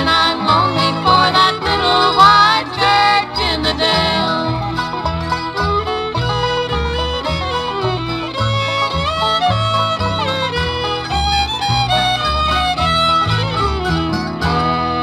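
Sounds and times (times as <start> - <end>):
bass line: 0.0 - 15.0
country band instrumental: 0.0 - 15.0.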